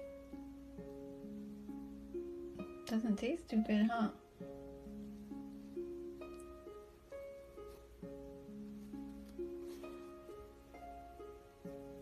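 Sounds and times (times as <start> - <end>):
simple melody of held notes: 0.0 - 12.0.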